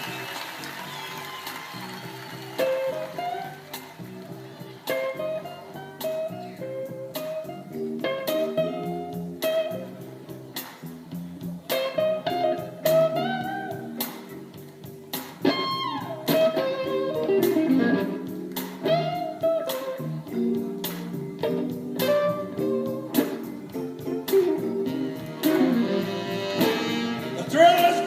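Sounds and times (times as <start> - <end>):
bass and drums: 0.0 - 28.0
electric guitar solo: 0.8 - 10.1, 11.7 - 14.3, 15.4 - 28.0.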